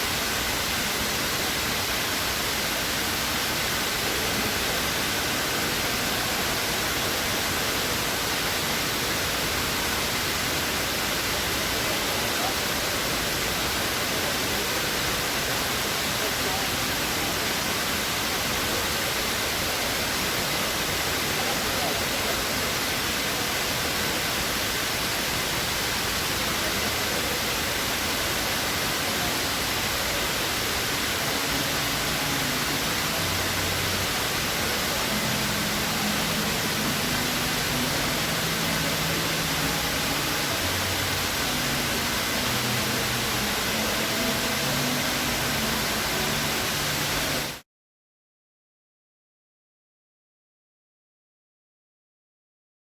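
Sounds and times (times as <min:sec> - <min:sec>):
indoor waterfall rushing: 0:00.0 - 0:47.6.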